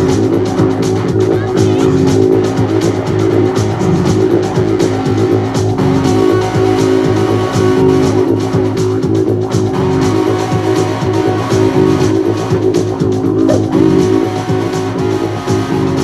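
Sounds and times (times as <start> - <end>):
didgeridoo drone: 0.0 - 16.0.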